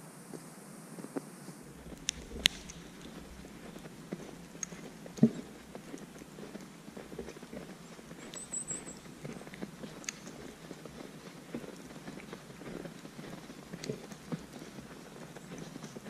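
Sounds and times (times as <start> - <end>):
footsteps crunching in snow: 1.5 - 16.0.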